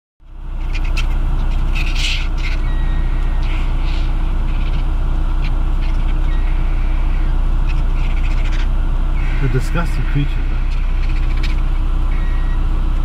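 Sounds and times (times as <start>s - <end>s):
low engine rumble: 0.2s - 13.0s
vultures hissing and squealing: 0.5s - 12.7s.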